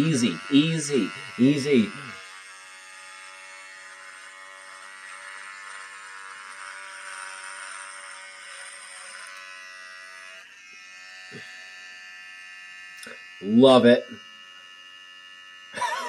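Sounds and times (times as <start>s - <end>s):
electric beard trimmer buzzing: 0.0s - 16.0s.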